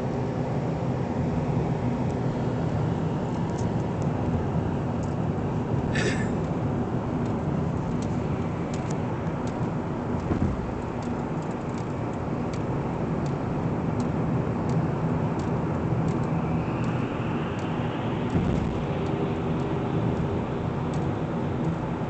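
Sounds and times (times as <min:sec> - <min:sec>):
car engine drone: 0:00.0 - 0:22.0.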